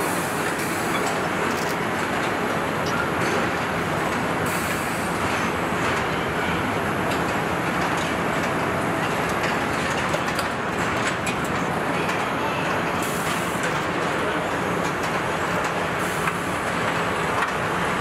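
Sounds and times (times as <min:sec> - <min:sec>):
factory hall rushing noise: 0:00.0 - 0:18.0.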